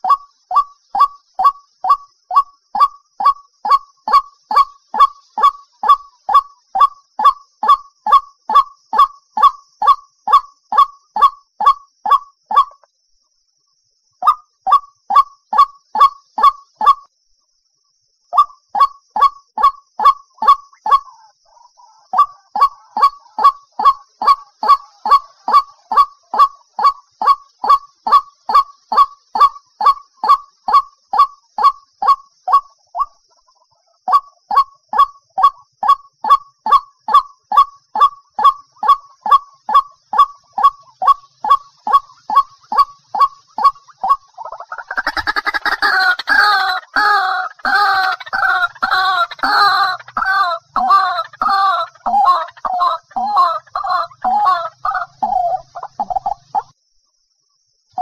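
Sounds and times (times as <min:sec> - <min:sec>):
waterhen calling: 0:00.0 - 0:12.8, 0:18.4 - 0:56.7.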